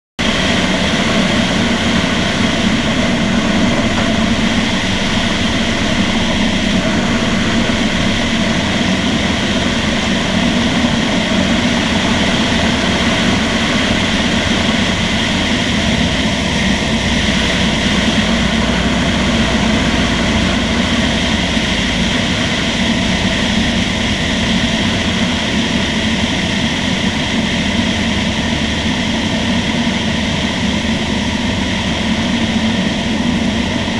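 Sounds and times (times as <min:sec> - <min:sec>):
airplane engine and propeller drone: 0:00.2 - 0:33.9.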